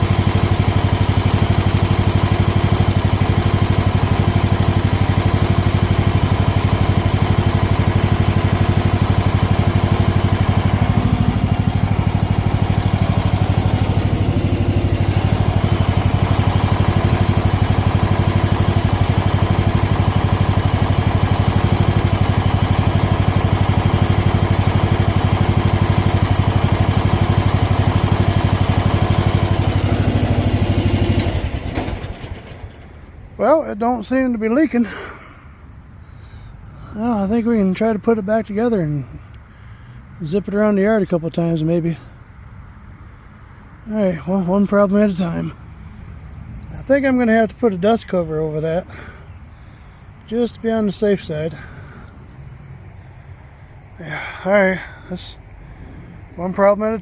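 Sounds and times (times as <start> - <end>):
mini excavator engine running: 0.0 - 37.0, 44.2 - 54.9.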